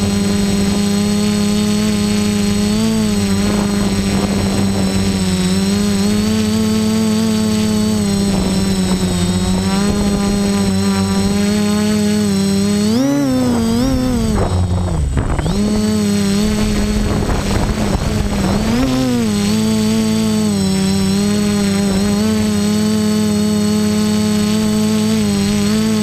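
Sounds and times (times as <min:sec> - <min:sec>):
drone motors buzzing: 0:00.0 - 0:26.0.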